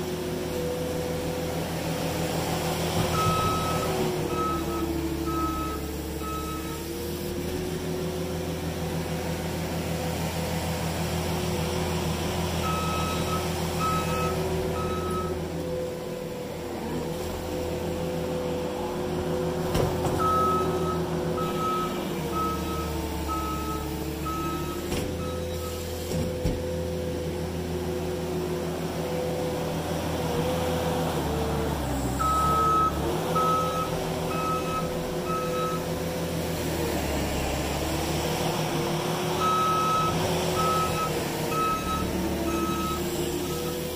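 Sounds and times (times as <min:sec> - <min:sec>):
diesel engine running under load: 0:00.0 - 0:43.9.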